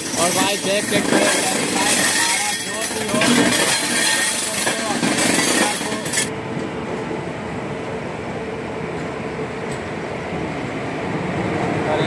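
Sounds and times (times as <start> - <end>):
train coach rumbling on rails: 0.0 - 12.0.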